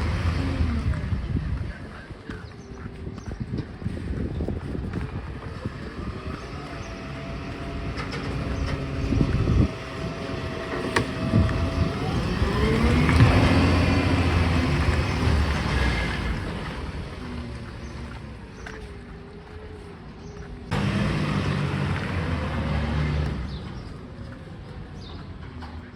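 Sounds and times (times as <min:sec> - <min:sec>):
garbage truck engine revving: 0:00.0 - 0:01.9, 0:04.9 - 0:18.8, 0:20.7 - 0:25.9.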